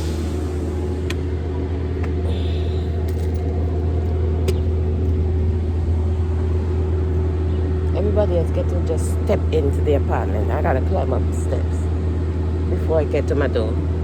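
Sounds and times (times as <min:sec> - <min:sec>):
engine idling rumble: 0:00.0 - 0:14.0.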